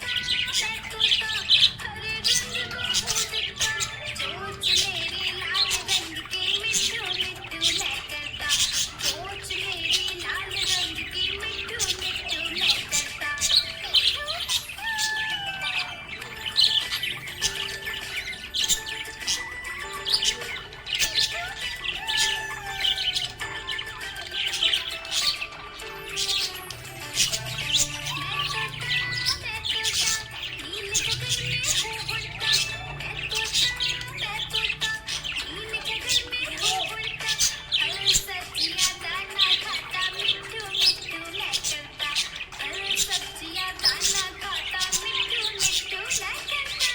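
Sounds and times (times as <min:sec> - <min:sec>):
budgies chirping and warbling: 0:00.0 - 0:46.9.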